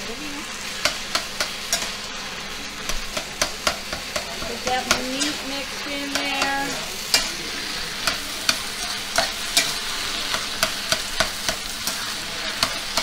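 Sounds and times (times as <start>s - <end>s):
food sizzling in a skillet: 0.0s - 13.0s
spatula scraping and knocking pan: 0.8s - 2.1s, 2.8s - 13.0s.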